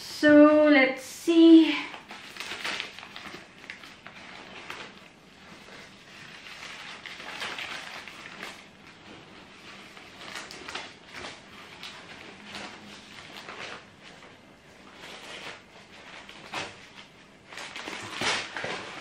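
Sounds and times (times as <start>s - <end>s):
paper wrapping rustling: 1.4s - 19.0s.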